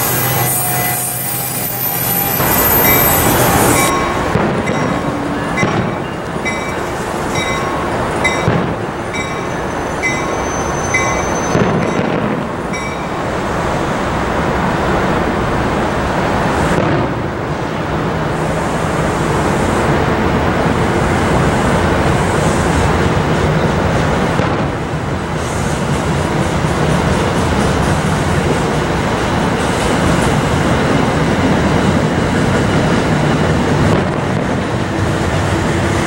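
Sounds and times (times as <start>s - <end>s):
train rail noise rushing: 0.0s - 36.0s.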